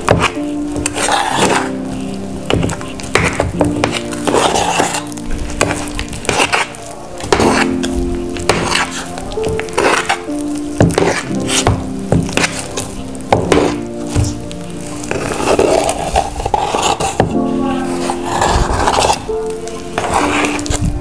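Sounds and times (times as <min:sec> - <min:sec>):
background music: 0:00.0 - 0:21.0
hand squelching dough: 0:00.0 - 0:21.0.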